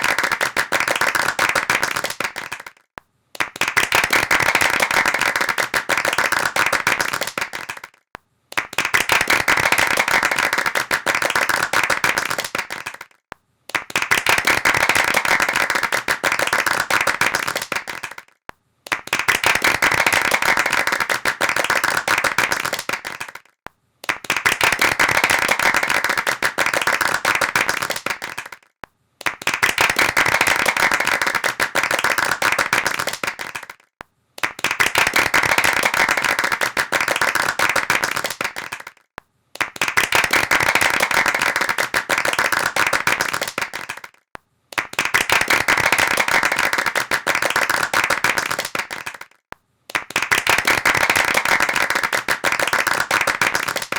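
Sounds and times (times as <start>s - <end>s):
hands clapping in fast patter: 0.0s - 53.9s.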